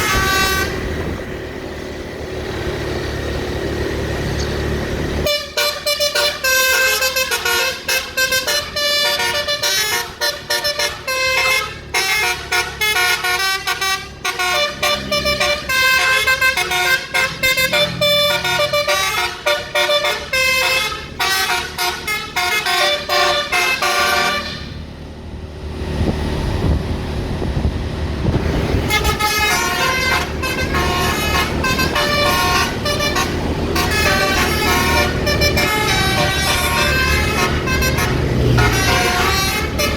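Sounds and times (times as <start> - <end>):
multi-tone bus horn tune: 0.0 - 1.6, 5.2 - 24.9, 28.5 - 39.9
low engine rumble: 0.0 - 39.9.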